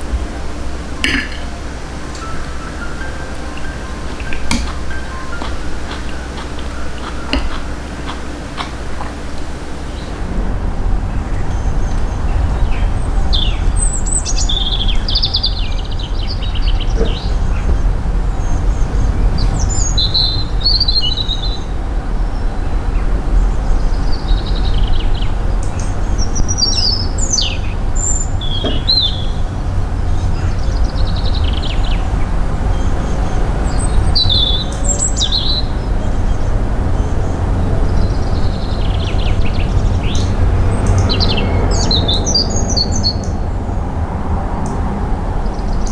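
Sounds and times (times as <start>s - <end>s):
songbirds chirping: 0.0s - 45.9s
steady low rumble: 0.0s - 45.9s.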